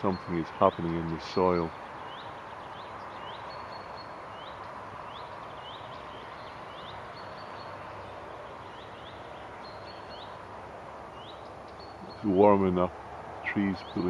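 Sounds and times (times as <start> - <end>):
songbirds chirping: 0.0 - 14.0
steady background hiss: 0.0 - 14.0.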